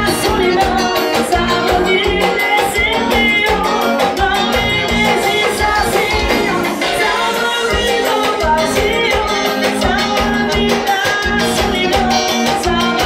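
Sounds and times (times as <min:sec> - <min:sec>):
drums fast beat: 0:00.0 - 0:13.0
live band music: 0:00.0 - 0:13.0
woman singing: 0:00.0 - 0:13.0.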